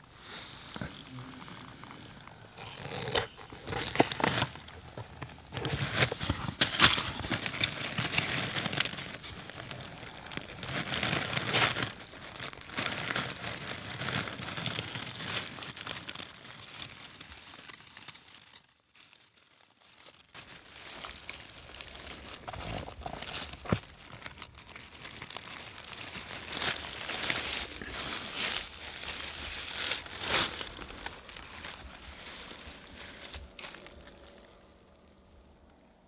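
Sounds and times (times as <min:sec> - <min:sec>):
fungus tearing and crunching: 0:00.7 - 0:35.7.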